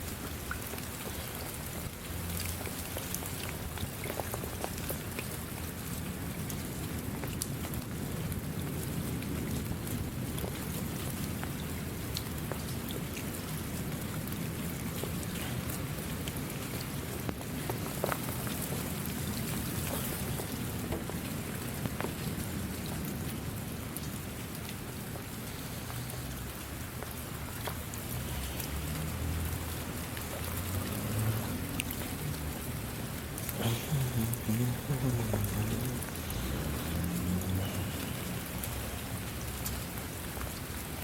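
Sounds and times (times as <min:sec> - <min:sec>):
rain falling: 0:00.0 - 0:41.0
raindrop ticks: 0:00.0 - 0:41.0.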